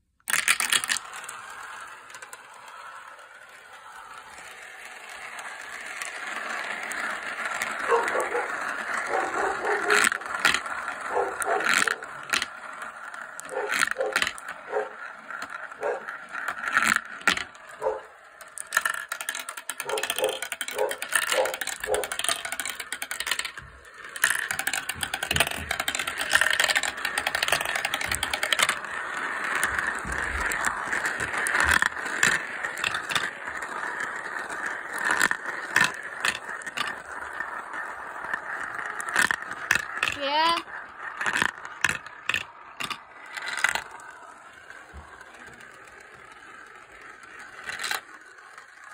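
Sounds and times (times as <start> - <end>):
glass marbles rolling in plastic: 0.0 - 48.9
marbles clacking together: 0.2 - 48.9.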